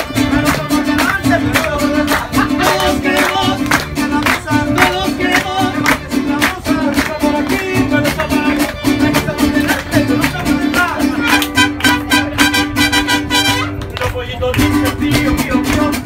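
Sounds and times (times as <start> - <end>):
mariachi band playing: 0.0 - 16.0.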